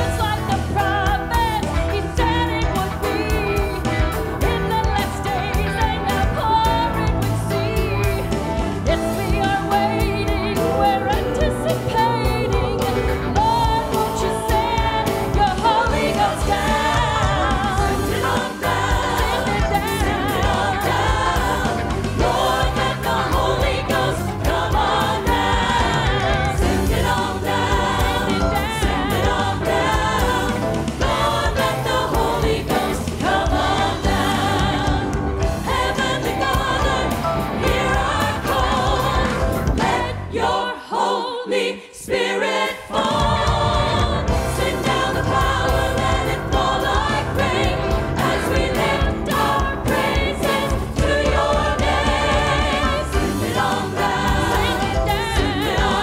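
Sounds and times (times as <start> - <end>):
band with piano and drums: 0.0 - 40.6, 42.2 - 56.0
choir singing: 0.0 - 56.0.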